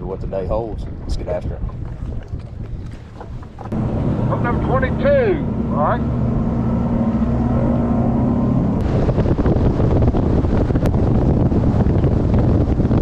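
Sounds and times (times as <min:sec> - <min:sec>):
outboard engine hum: 0:00.0 - 0:13.0
wind buffeting: 0:00.0 - 0:13.0
water rushing: 0:00.9 - 0:11.7.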